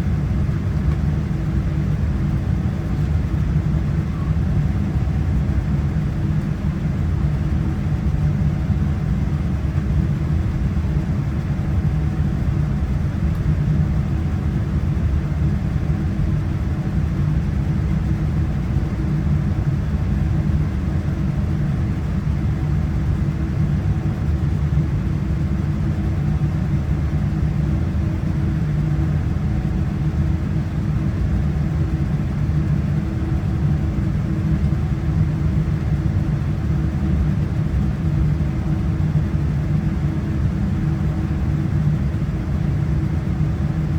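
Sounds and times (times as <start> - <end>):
airliner cabin engine hum: 0.0 - 43.9.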